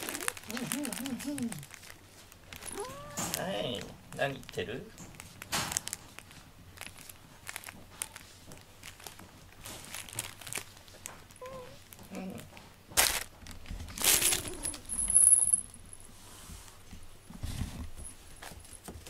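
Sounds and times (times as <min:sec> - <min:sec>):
rustling of cat fur and fabric: 0:00.0 - 0:19.0.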